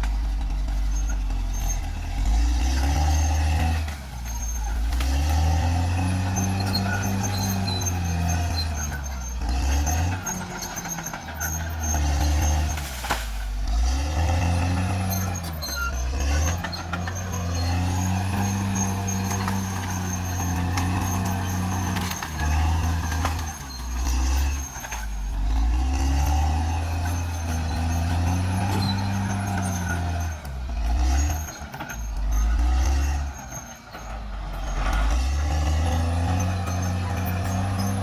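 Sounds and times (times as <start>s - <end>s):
bulldozer diesel engine droning: 0.0s - 38.0s.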